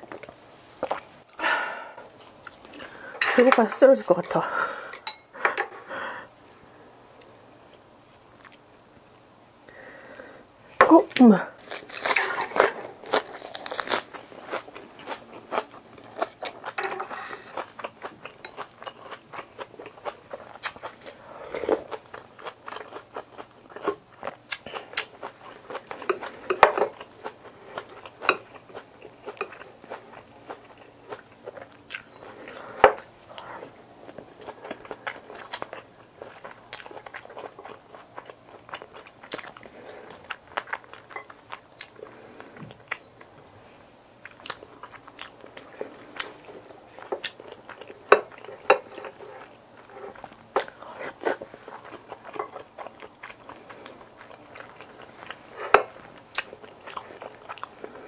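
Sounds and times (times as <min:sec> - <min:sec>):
person chewing and crunching food: 0:00.0 - 0:03.2, 0:11.1 - 0:58.0.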